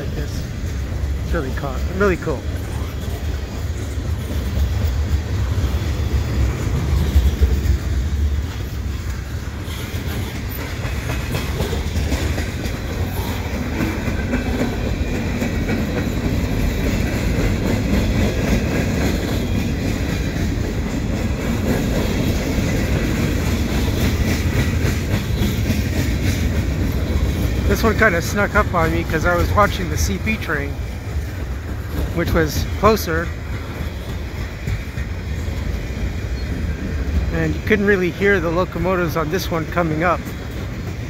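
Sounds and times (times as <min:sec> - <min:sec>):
train wheels rumbling on rails: 0:00.0 - 0:41.0
wheels clicking over rail joints: 0:00.0 - 0:41.0.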